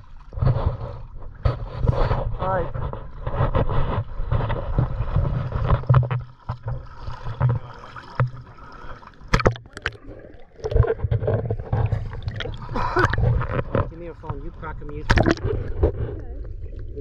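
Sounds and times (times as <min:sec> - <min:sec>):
muffled underwater gurgling: 0:00.0 - 0:17.0
seawater sloshing and splashing: 0:00.0 - 0:17.0.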